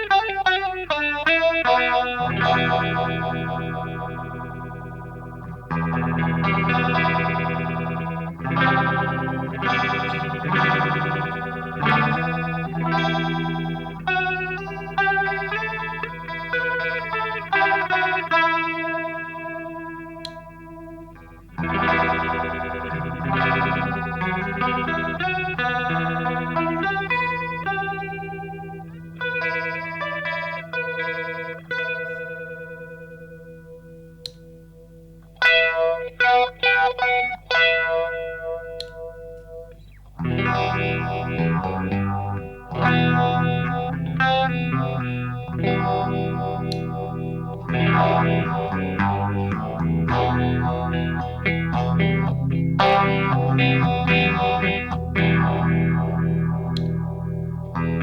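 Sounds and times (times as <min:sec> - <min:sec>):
electric guitar with phaser: 0:00.0 - 0:58.0.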